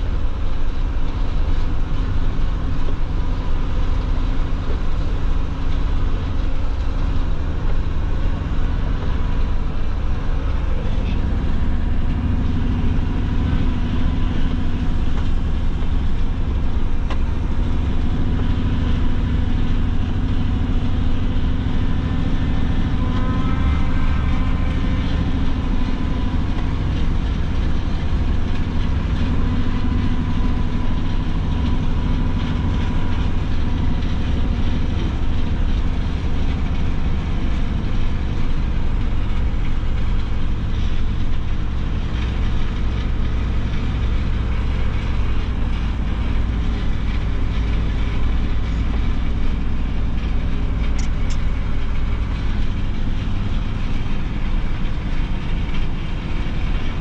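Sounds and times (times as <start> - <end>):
cab and chassis rattling: 0.0 - 57.0
diesel engine running under load: 0.0 - 57.0.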